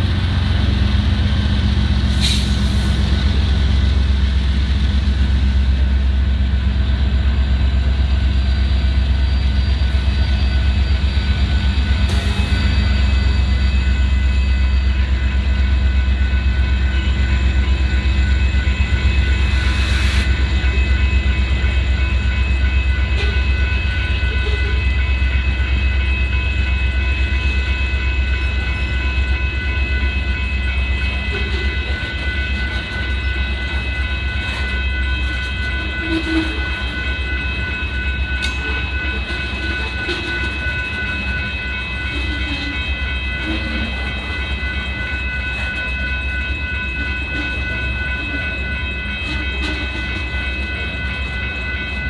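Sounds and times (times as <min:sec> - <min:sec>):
diesel locomotive passing: 0:00.0 - 0:52.0.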